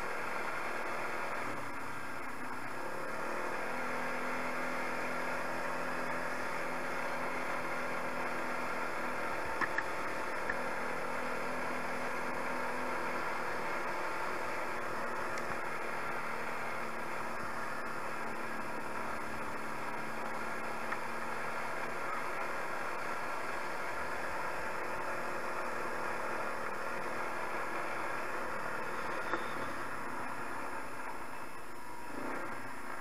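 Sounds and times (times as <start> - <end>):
quad engine running: 0.0 - 33.0.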